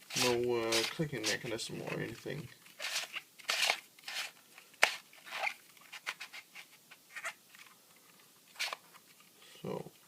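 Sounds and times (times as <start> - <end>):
plastic puzzle clicking and scraping: 0.0 - 9.4.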